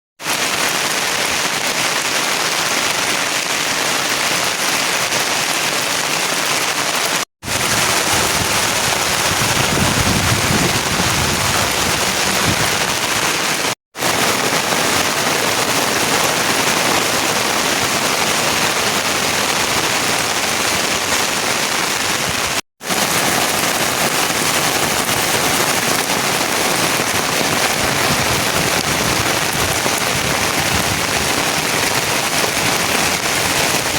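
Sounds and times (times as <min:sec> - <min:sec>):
heavy rain falling: 0:00.2 - 0:33.9.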